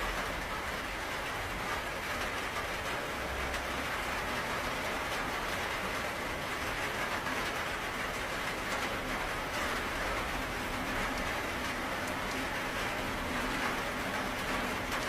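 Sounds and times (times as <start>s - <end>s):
steady rainfall hiss: 0.0s - 15.0s.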